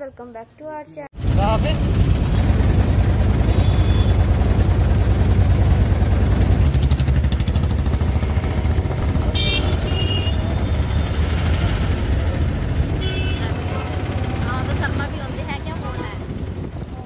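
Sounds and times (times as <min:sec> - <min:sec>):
auto-rickshaw engine drone: 0:01.2 - 0:17.0.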